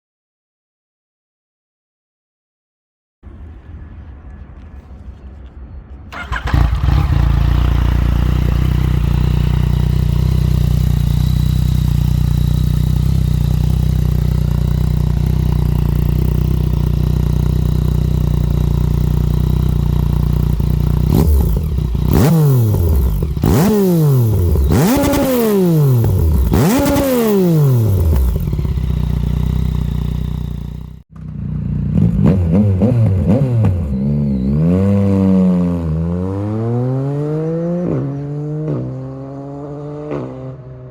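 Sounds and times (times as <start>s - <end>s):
motorcycle engine idling and revving: 6.1s - 40.9s.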